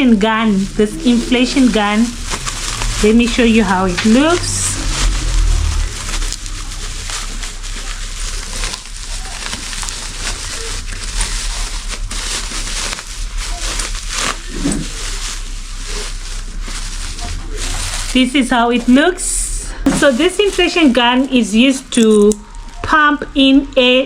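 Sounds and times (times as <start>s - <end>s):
plastic packaging crinkling: 0.0s - 19.2s, 19.9s - 22.8s.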